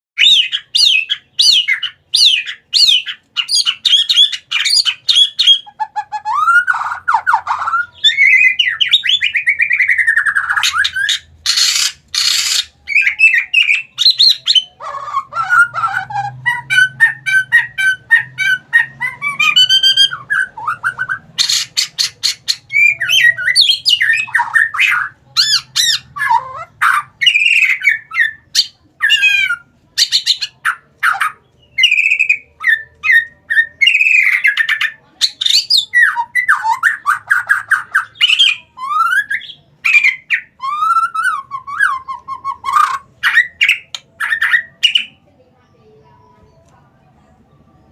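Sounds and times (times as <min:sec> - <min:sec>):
songbird singing whistles and trills: 0:00.2 - 0:45.3.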